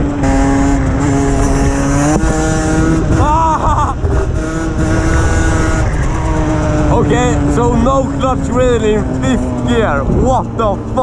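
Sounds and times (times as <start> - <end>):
two-stroke motorcycle at high revs: 0.0 - 11.0.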